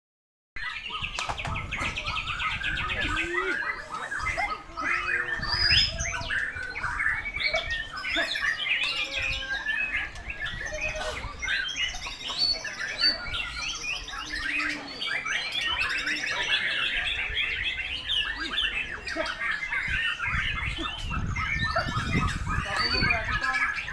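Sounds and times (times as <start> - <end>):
chorus of songbirds: 0.6 - 23.9.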